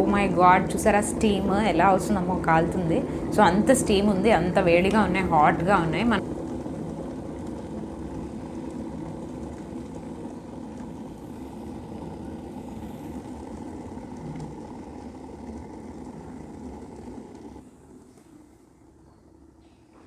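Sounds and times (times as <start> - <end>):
kettle boiling water and steam: 0.0 - 20.0.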